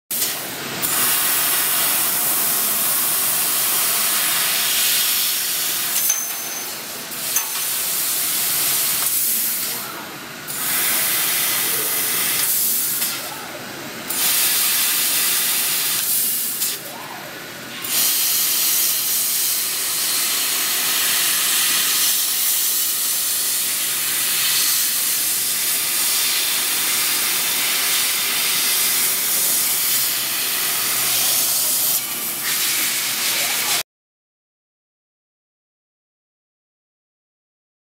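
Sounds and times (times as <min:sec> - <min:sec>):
laser cutter gas hissing: 0:00.2 - 0:13.4, 0:14.1 - 0:17.0, 0:17.8 - 0:33.8.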